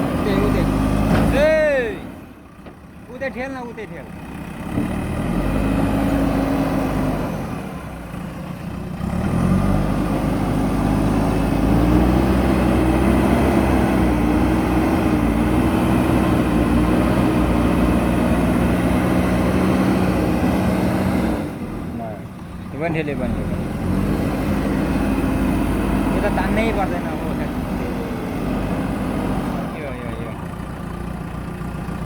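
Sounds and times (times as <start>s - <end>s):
diesel engine revving under load: 0.0s - 32.0s.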